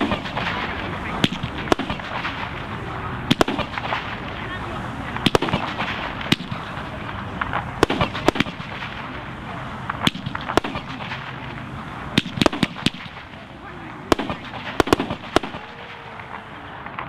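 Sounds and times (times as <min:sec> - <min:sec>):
firework bangs: 0:00.0 - 0:17.0
steady background noise: 0:00.0 - 0:17.0.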